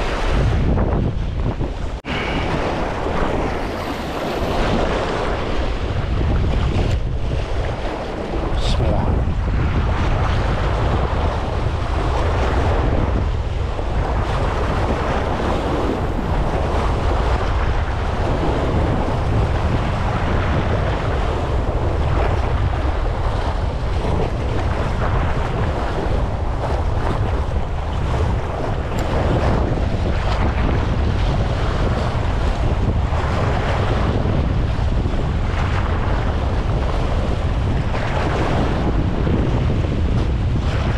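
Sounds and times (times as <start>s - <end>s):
sea water splashing against rocks: 0.0s - 40.9s
wind buffeting microphone: 0.0s - 40.9s.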